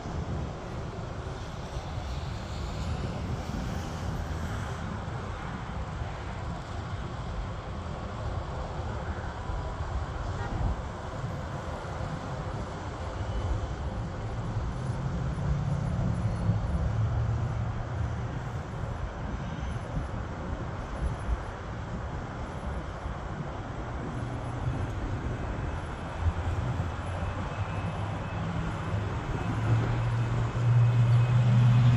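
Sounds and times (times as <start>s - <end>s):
jet airliner engines overhead: 0.0s - 31.9s.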